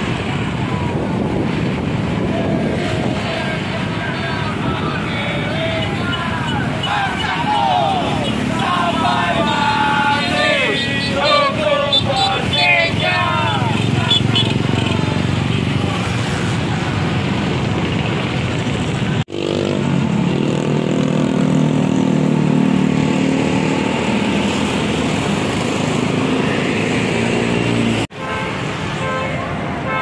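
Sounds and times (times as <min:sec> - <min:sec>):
bus engine passing: 0:00.0 - 0:29.0
motorcycle engines passing: 0:00.0 - 0:29.9.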